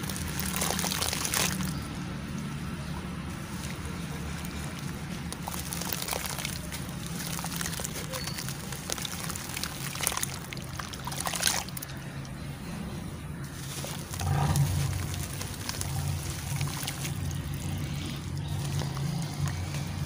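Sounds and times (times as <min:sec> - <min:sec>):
charcoal crunching crackles: 0:00.0 - 0:12.4, 0:13.4 - 0:20.0
water splashes: 0:00.0 - 0:12.7, 0:13.3 - 0:20.0
water sloshing and trickling: 0:00.0 - 0:20.0.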